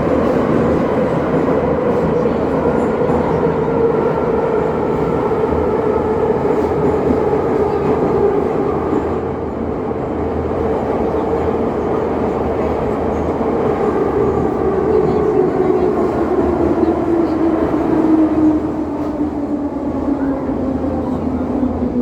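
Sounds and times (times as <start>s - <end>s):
passenger train rumbling on track: 0.0s - 22.0s.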